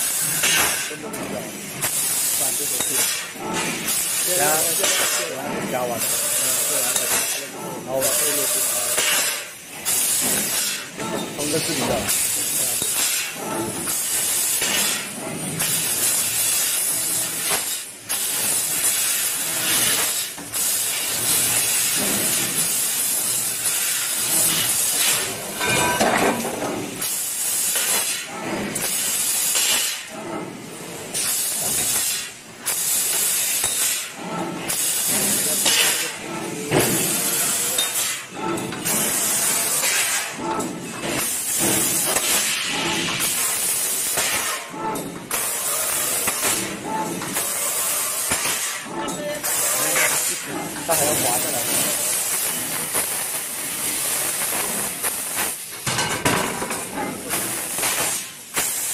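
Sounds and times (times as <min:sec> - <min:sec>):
laser cutter hissing: 0:00.0 - 0:56.0, 0:56.6 - 0:58.9.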